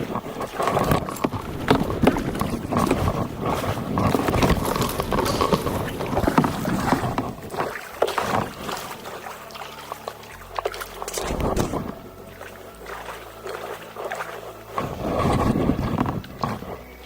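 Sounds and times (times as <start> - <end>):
kayak paddles splashing water: 0.0 - 17.0.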